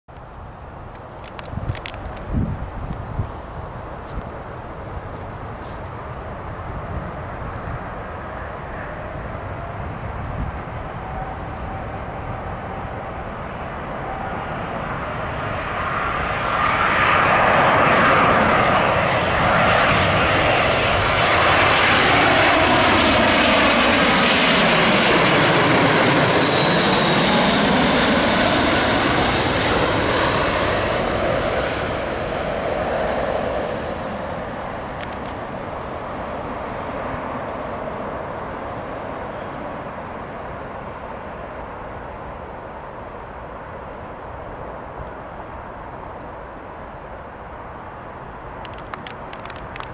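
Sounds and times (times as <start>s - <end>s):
jet airliner flying overhead: 0.2s - 49.9s.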